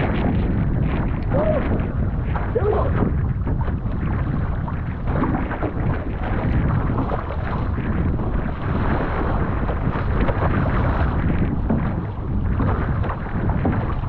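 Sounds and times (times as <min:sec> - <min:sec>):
water splashing around canoe: 0:00.0 - 0:14.0
wind rumbling on microphone: 0:00.0 - 0:14.0.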